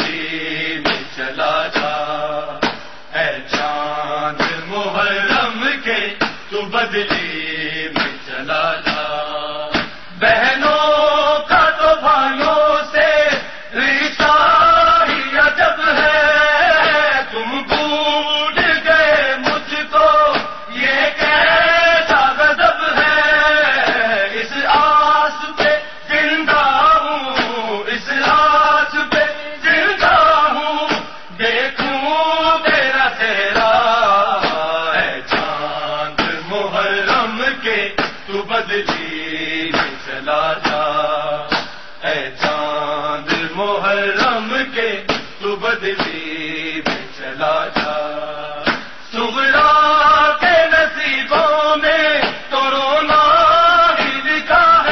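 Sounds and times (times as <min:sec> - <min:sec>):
voices chanting a lament: 0:00.0 - 0:54.9.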